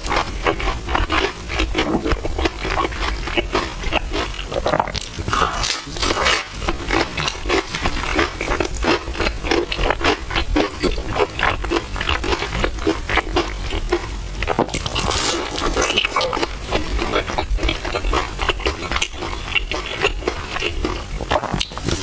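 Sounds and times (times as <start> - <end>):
wet chewing and slurping: 0.0 - 22.0.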